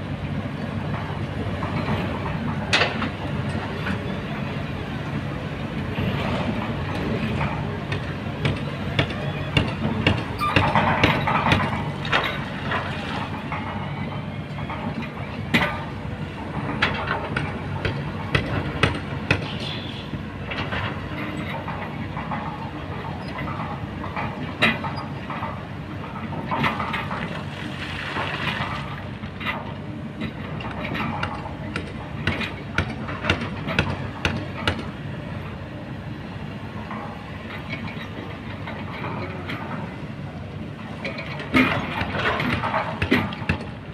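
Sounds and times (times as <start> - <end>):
excavator diesel engine droning: 0.0 - 43.9.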